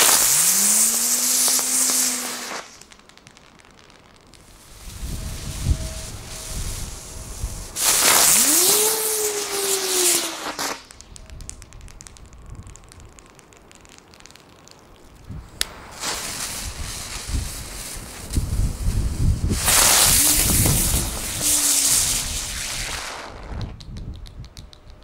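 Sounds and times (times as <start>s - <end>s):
spinner fireworks hissing: 0.0s - 23.8s
firework whine: 0.0s - 24.6s
faint crackling: 0.0s - 25.0s
sharp crack: 0.0s - 25.0s.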